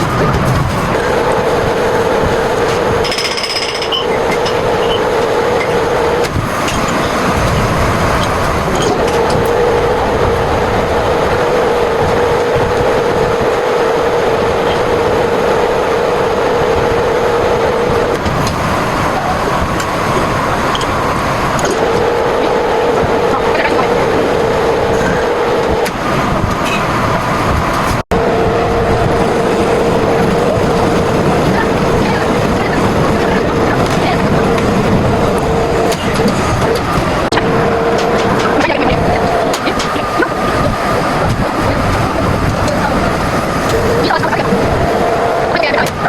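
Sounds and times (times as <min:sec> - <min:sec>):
running machinery hum: 0:00.0 - 0:46.0.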